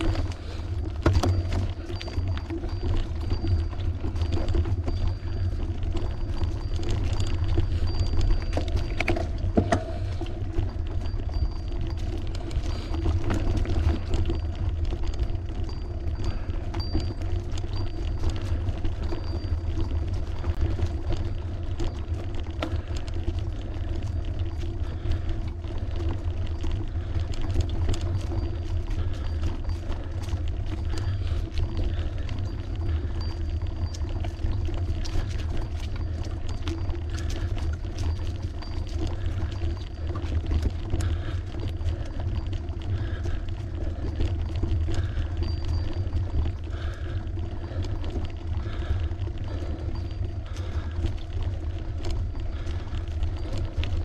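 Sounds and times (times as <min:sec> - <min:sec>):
bicycle tyre rumble on road: 0:00.0 - 0:54.0.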